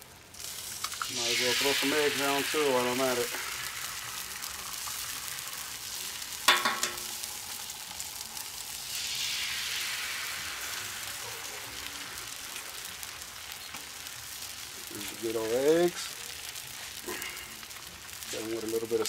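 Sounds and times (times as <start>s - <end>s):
eggs and batter sizzling on griddle: 0.0s - 19.0s.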